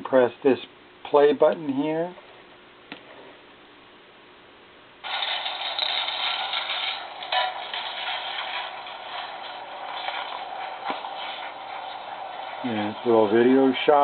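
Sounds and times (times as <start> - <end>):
thin video playback through small speaker: 0.0 - 14.0.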